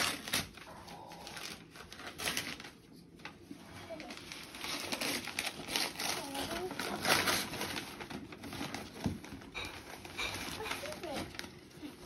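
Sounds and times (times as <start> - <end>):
paper crinkling: 0.0 - 12.0
wrapping paper tearing: 0.0 - 12.0.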